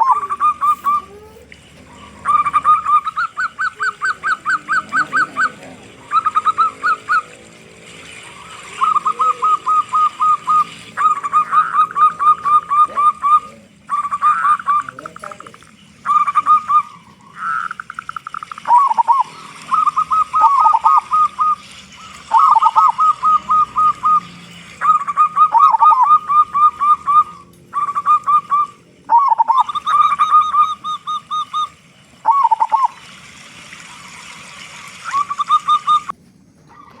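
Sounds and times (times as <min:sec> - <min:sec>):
dove cooing in staccato notes: 0:00.0 - 0:37.0.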